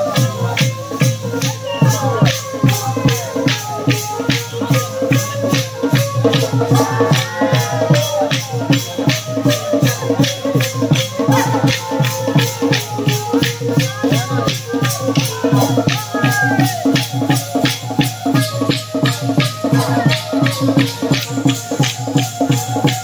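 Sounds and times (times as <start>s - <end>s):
drums: 0.0s - 23.0s
wavering melody: 0.0s - 23.0s.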